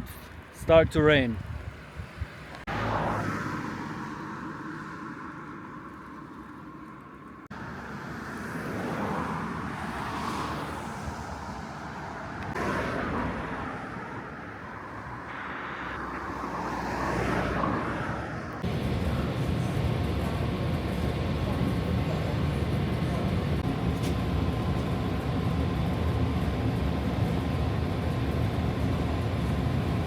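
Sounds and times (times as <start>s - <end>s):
cars passing: 1.5s - 30.0s.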